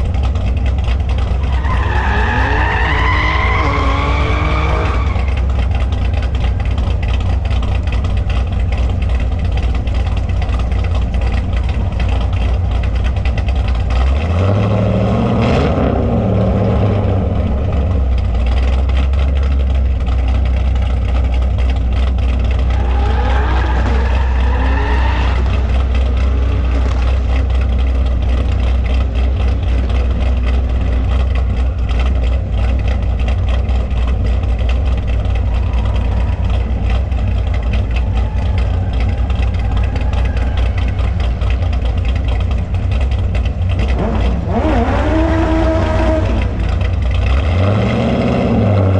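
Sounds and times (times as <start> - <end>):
car engine idling and revving: 0.0 - 48.9.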